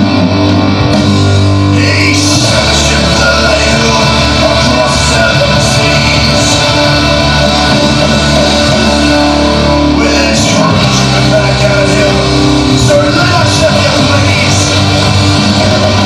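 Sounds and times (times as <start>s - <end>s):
loud rock music with guitar: 0.0s - 16.0s.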